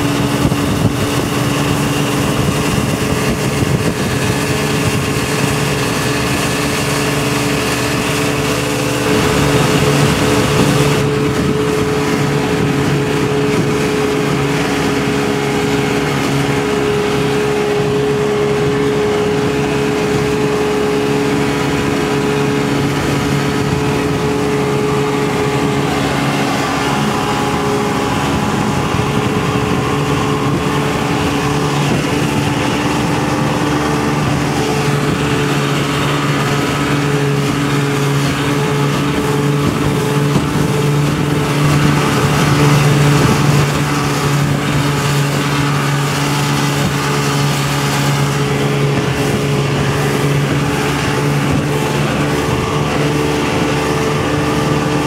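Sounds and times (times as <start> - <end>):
motorboat engine running: 0.0 - 55.0
water rushing past hull: 0.0 - 55.0
wind: 0.0 - 55.0.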